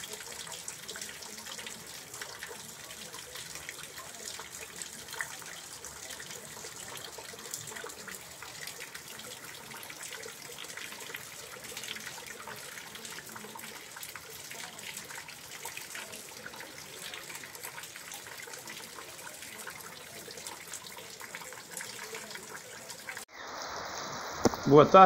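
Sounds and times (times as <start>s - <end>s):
heavy rain on a roof: 0.0s - 25.0s
water pouring from a pipe: 0.0s - 25.0s.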